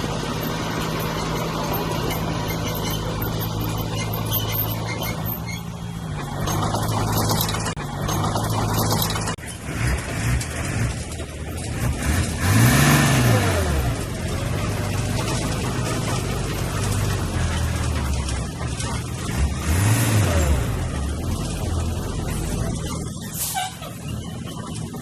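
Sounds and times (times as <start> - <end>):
heavy diesel engine revving: 0.0 - 25.0.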